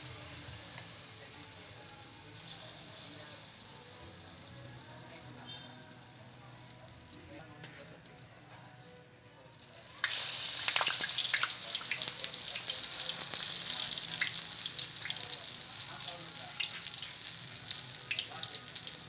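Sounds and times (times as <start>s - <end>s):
food frying with spattering: 0.0s - 7.4s, 9.6s - 19.0s
hot oil sizzling in a pan: 0.0s - 7.4s, 8.1s - 19.0s.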